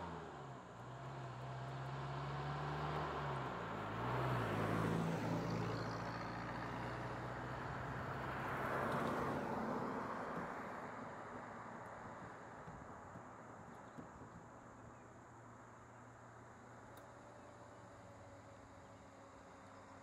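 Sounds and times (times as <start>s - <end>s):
vehicles driving past: 0.0s - 20.0s.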